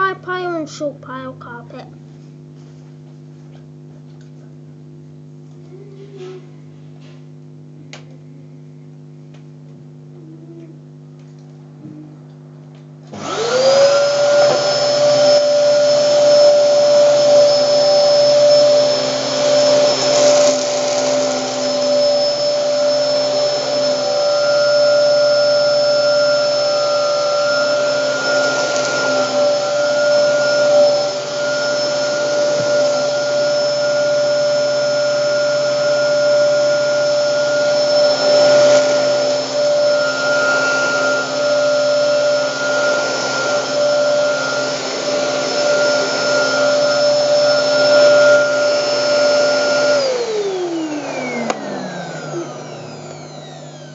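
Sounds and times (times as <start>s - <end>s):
vacuum cleaner motor whine: 2.0s - 53.9s.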